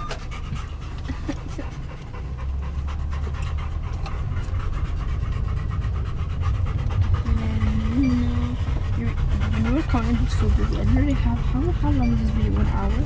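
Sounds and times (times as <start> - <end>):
constant low rumble: 0.0 - 13.0
dog panting rapidly: 0.0 - 13.0.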